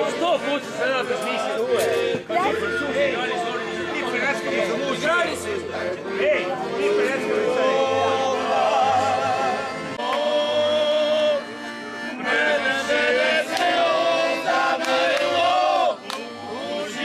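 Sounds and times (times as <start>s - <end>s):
men singing together: 0.0s - 11.5s, 12.2s - 17.0s
piano accordion: 0.0s - 17.0s.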